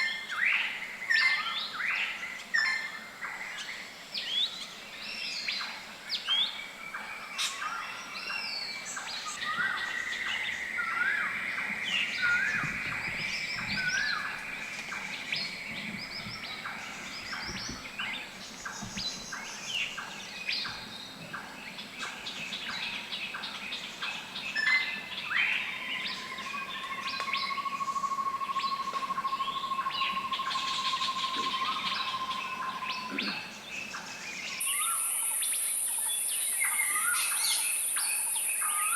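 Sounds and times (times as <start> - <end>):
low steady bird trill: 0.0 - 38.9
birds chirping and whistling: 7.4 - 38.9.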